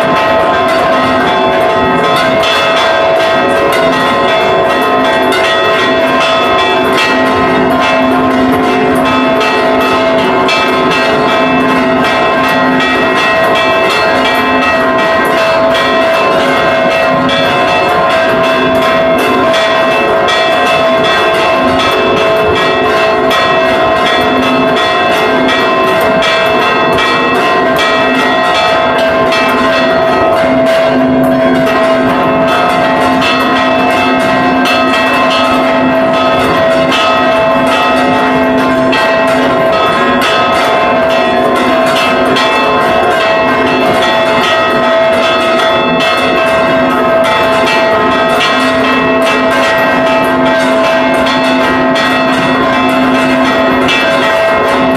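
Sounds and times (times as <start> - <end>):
church bells ringing: 0.0 - 54.9.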